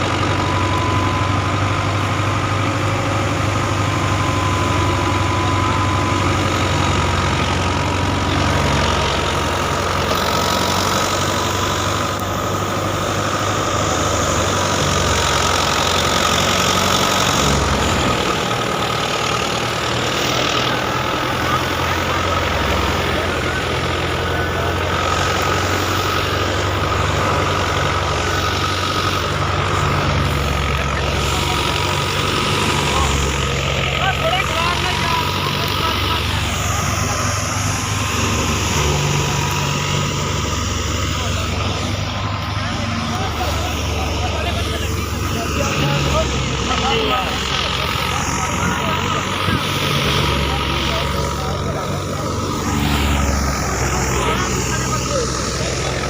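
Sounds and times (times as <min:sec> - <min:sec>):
farm machinery engine humming: 0:00.0 - 0:56.0
high whine: 0:00.0 - 0:56.0.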